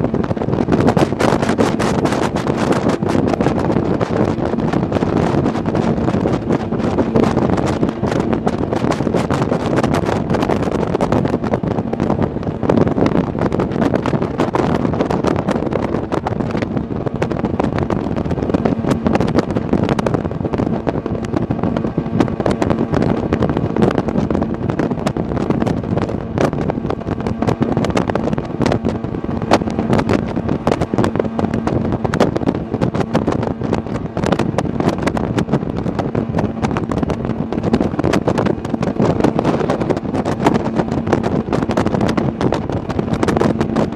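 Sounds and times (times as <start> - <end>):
faint boat engine: 0.0 - 43.9
wind buffeting microphone: 0.0 - 43.9.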